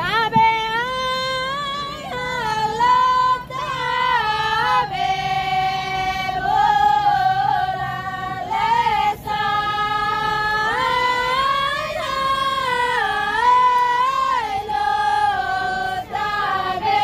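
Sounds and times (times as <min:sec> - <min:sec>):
group singing without instruments: 0:00.3 - 0:17.0.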